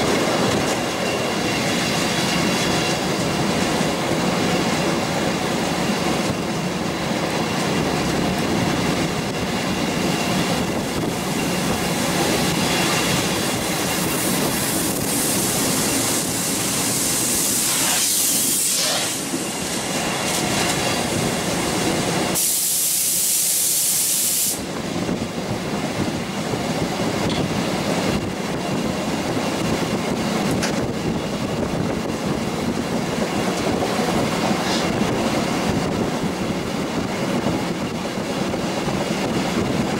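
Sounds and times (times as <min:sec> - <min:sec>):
clickety-clack over rail joints: 0:00.0 - 0:22.4, 0:24.6 - 0:39.9
train wheels rumbling on rails: 0:00.0 - 0:39.9.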